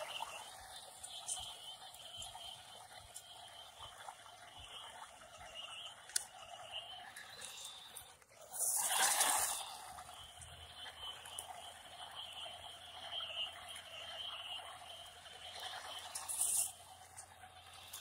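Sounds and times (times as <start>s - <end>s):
rc truck motor and tyres rushing: 0.0s - 18.0s.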